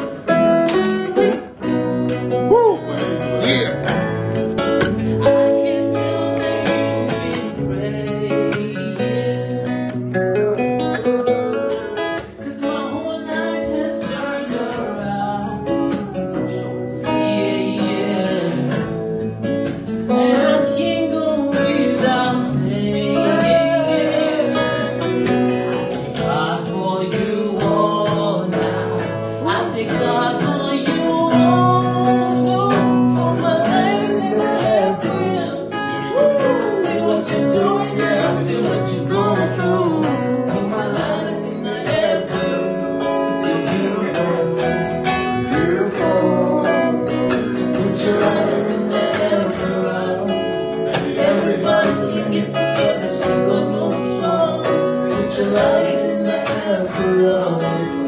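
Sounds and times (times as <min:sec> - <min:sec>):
man singing into a microphone: 0:00.0 - 0:10.0, 0:11.3 - 0:58.0
acoustic guitar strummed: 0:00.0 - 0:58.0.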